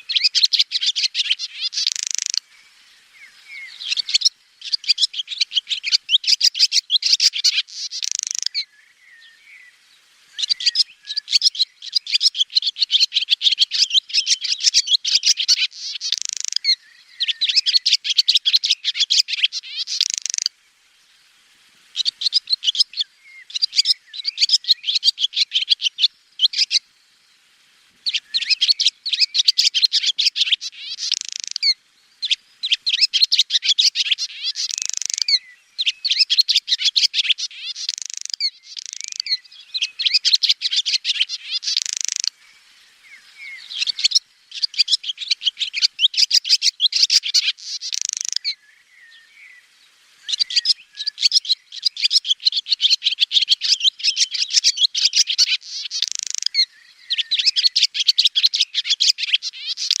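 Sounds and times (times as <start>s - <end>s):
swallow twittering: 0.0s - 9.7s, 10.3s - 20.5s, 22.0s - 26.8s, 28.0s - 49.6s, 50.2s - 60.0s.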